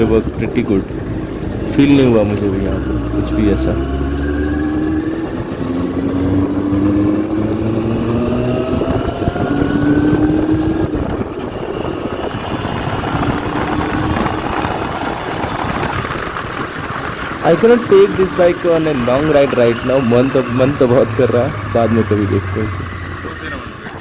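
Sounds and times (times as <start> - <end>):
motorcycle engine revving: 0.0 - 24.0
wind noise: 0.0 - 24.0.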